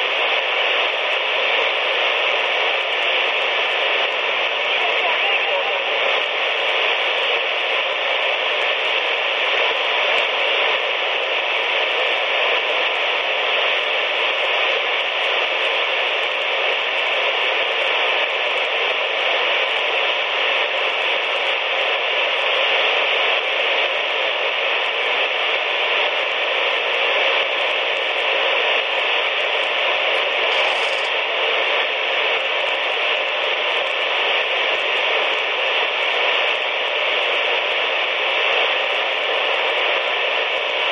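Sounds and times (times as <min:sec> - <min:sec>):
radio receiver static: 0:00.0 - 0:22.4, 0:23.8 - 0:40.9.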